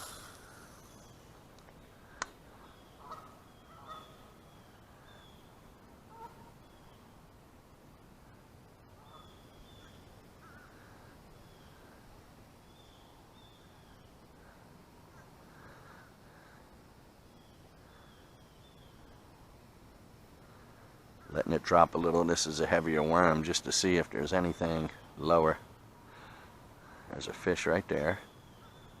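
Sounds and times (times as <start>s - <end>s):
faint birds calling: 0.0s - 7.2s, 8.9s - 19.4s, 20.0s - 29.0s.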